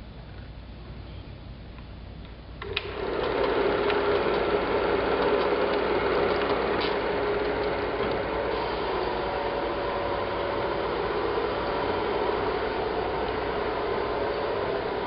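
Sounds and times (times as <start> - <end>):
small machine whirring: 2.6 - 15.0.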